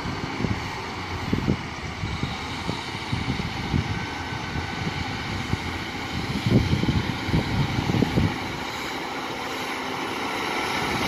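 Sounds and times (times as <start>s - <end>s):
diesel train engines running: 0.0s - 11.0s.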